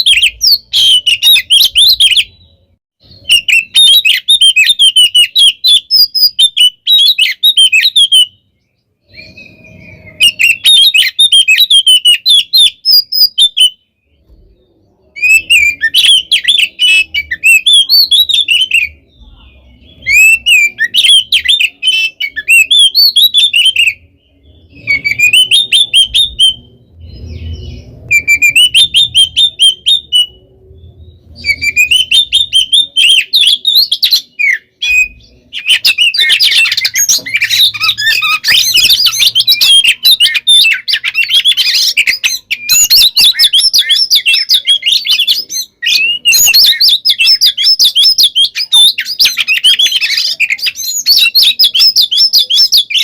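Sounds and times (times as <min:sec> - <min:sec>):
bird singing whistles and chatter: 0:00.0 - 0:53.0.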